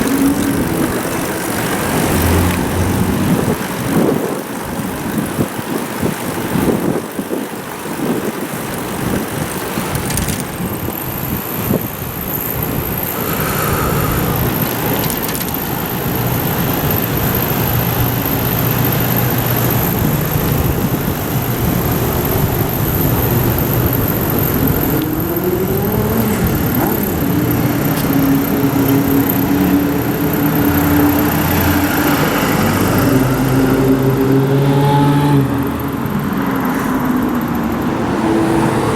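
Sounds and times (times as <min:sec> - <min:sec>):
wind on microphone: 0:00.0 - 0:36.4
vehicle engine running: 0:00.0 - 0:38.9.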